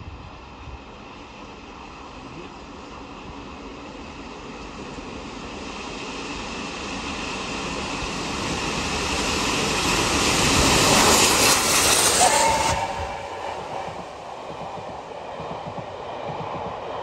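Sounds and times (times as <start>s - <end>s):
steam locomotive running: 0.0s - 17.0s.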